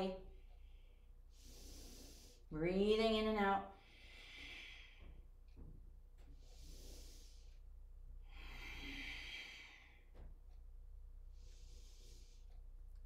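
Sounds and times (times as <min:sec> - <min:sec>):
woman breathing: 0:00.2 - 0:02.6, 0:03.7 - 0:10.5, 0:11.2 - 0:13.0.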